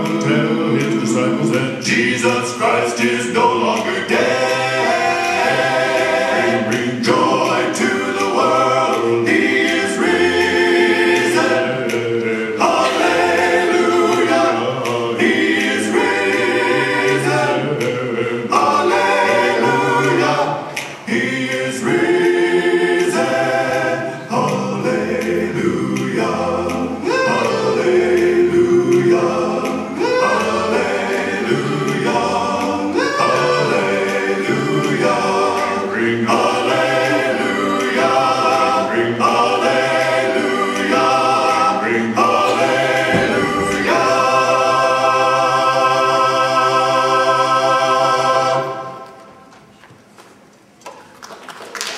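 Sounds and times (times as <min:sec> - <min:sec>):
choir singing a cappella: 0:00.0 - 0:49.4.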